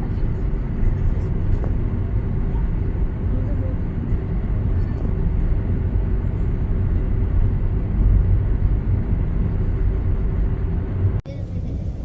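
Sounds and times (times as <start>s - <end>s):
railcar low rumble: 0.0s - 12.0s.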